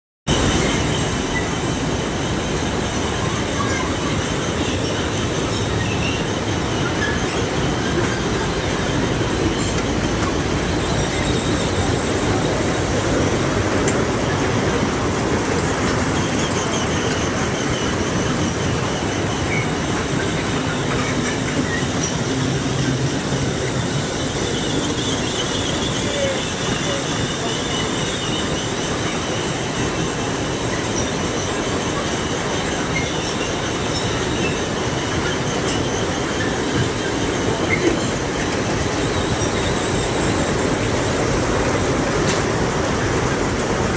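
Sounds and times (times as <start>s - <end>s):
carousel mechanical rumble: 0.3s - 43.9s.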